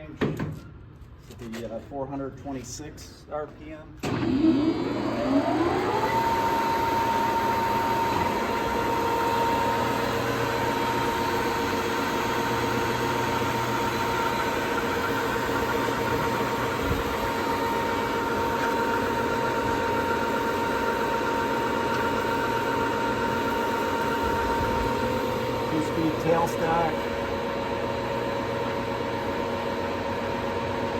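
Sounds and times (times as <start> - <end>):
lathe drive hum: 4.0 - 30.9
lathe gear whine: 4.1 - 30.9.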